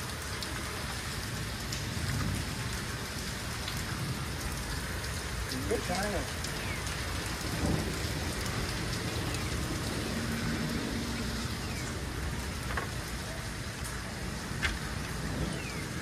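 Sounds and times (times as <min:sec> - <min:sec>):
rain on pavement and leaves: 0:00.0 - 0:16.0
water drips ticking: 0:00.0 - 0:16.0.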